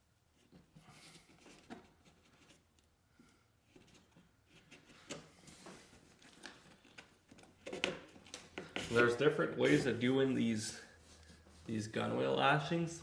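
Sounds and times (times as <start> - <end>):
soft scrapes and light clicks: 0.3 - 12.1.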